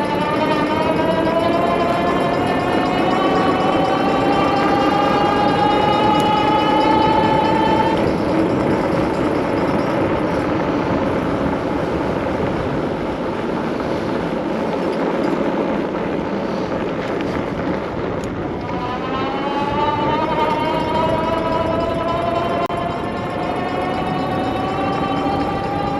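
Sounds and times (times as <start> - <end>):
electric motor whine: 0.0 - 25.9
wind and road noise: 0.0 - 25.9.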